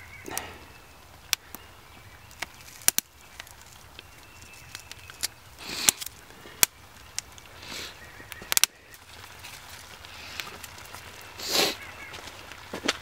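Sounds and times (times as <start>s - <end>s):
wood coals crackling: 0.0s - 13.0s.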